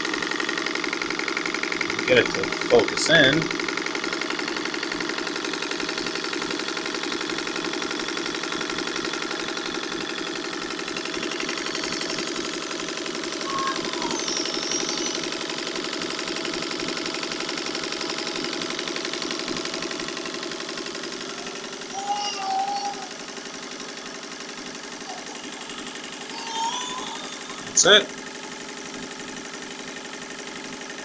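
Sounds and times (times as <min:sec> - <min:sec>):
sewing machine clattering: 0:00.0 - 0:22.0, 0:22.9 - 0:31.0.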